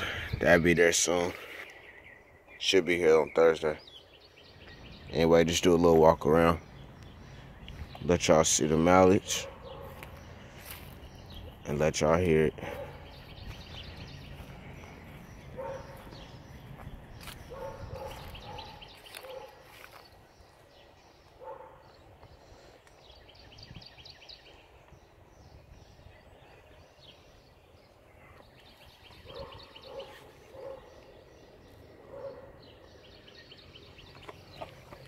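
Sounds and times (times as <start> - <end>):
birds chirping trills: 0.0 - 35.0
short low bird calls: 0.0 - 35.0.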